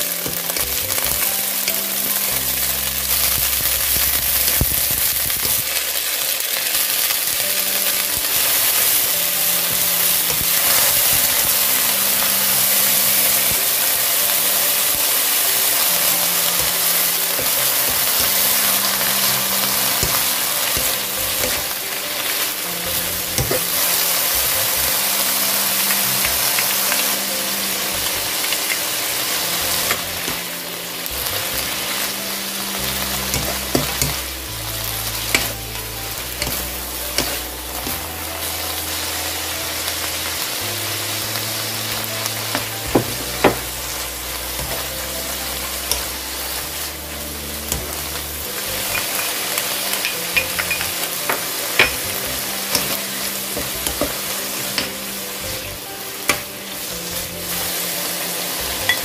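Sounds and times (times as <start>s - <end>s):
sprouts sizzling in a pan: 0.0s - 59.0s.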